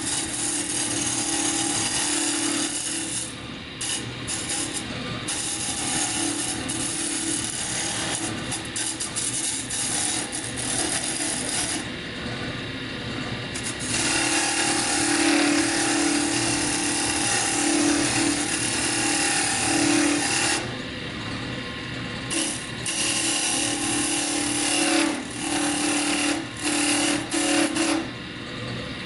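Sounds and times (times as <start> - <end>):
wood lathe running: 0.0 - 12.0, 13.6 - 20.7, 22.3 - 28.1
tool scraping spinning wood: 0.0 - 12.6, 13.6 - 20.8, 22.2 - 28.2.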